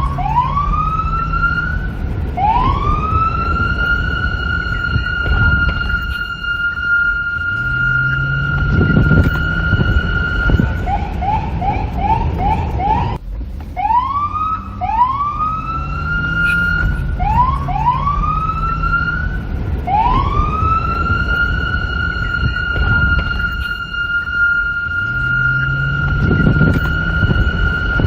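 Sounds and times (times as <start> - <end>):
police siren yelping and wailing: 0.0 - 13.2, 13.8 - 28.0
low rumble: 0.0 - 28.0.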